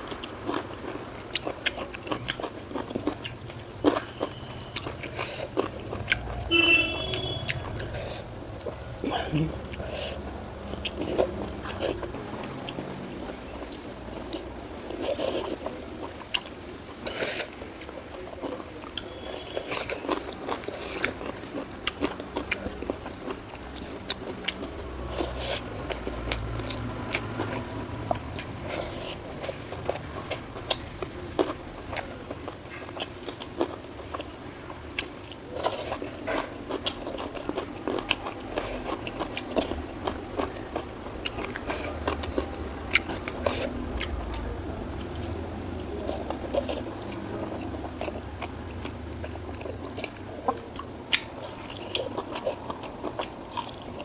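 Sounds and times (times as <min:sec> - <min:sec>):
person biting and chewing: 0:00.0 - 0:12.9, 0:18.4 - 0:34.3, 0:35.0 - 0:54.0.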